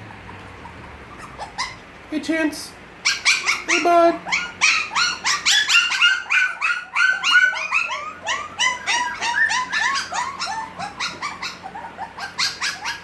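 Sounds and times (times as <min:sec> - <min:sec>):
puppies whining: 0:00.0 - 0:02.1, 0:03.0 - 0:13.0.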